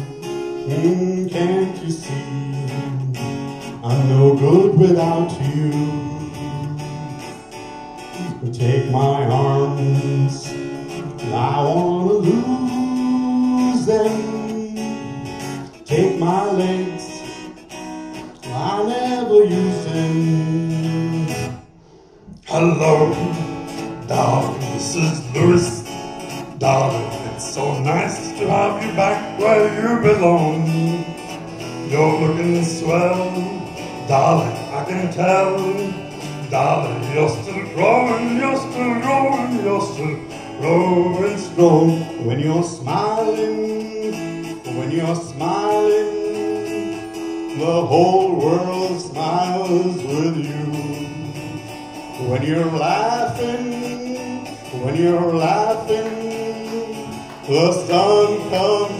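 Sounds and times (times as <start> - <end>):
man singing: 0.0 - 21.7, 22.3 - 58.9
acoustic guitar playing jazz: 0.0 - 58.9.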